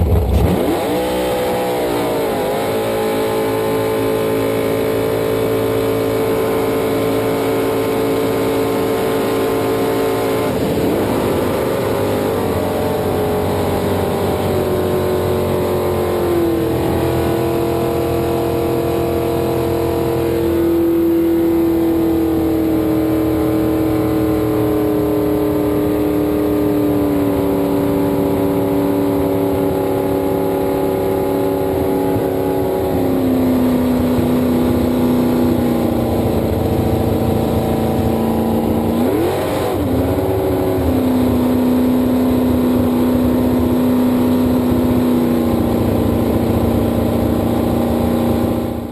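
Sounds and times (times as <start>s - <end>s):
jet boat engine running: 0.0s - 48.9s.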